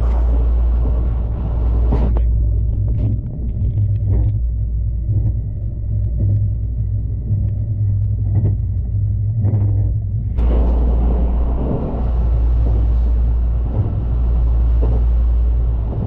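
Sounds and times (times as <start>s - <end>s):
train rumbling: 0.0s - 8.6s, 9.5s - 16.0s.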